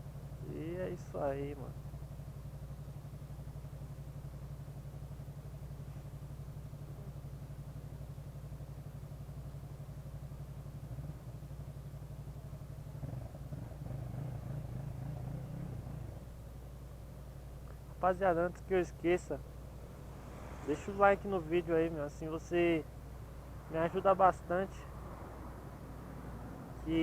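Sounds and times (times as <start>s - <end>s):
scooter engine running: 0.0s - 27.0s.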